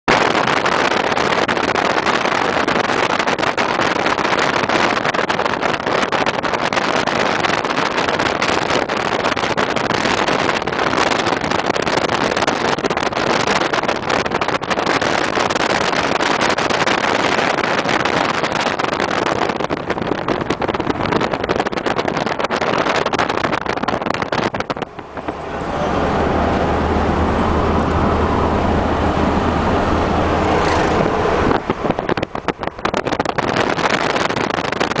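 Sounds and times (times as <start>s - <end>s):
wind and road noise: 0.0s - 35.0s
car engine hum: 0.1s - 35.0s.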